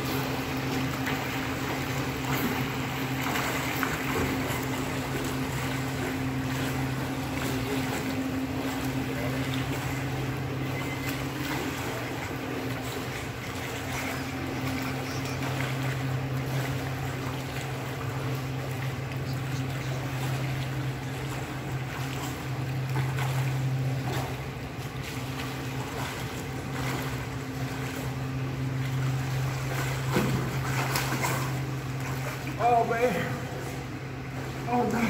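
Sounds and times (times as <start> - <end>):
steady low hum: 0.0 - 35.0
swimmers splashing: 0.0 - 35.0.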